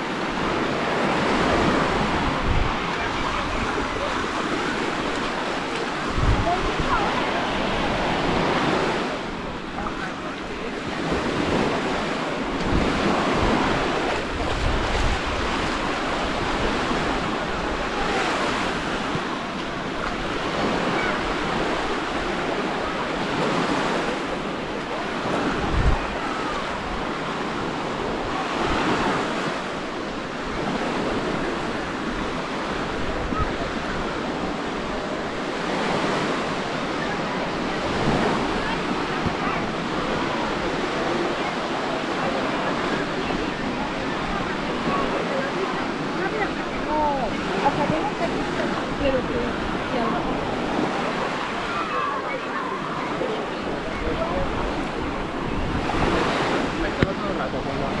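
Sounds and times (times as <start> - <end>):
small waves washing on sandy shore: 0.0 - 58.0
wind gusting on microphone: 0.0 - 58.0.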